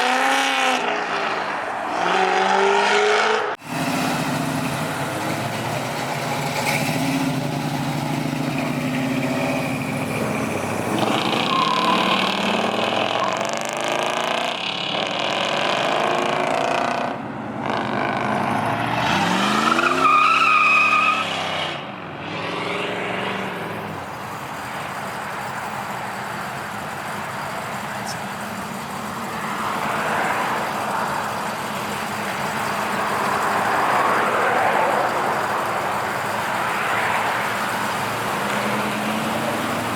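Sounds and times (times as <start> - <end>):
car engine revving: 0.0 - 21.6, 22.2 - 39.9
cars driving by: 0.0 - 39.9.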